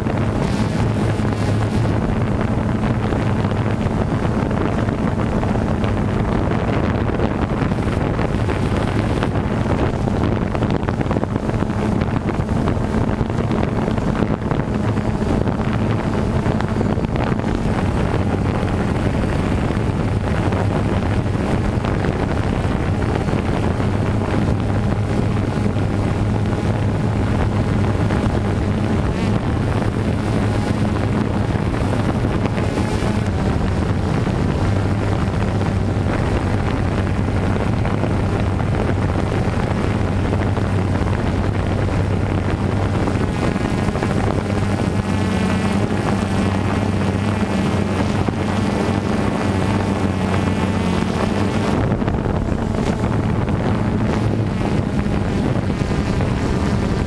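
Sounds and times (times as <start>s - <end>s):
drone propellers humming: 0.0s - 57.0s
wind buffeting microphone: 0.0s - 57.0s.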